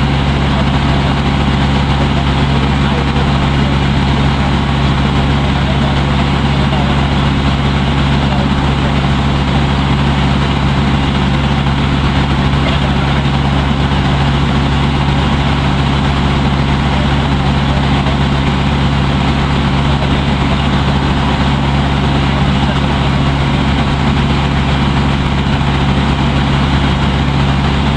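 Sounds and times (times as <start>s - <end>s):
boat engine humming: 0.0s - 27.9s.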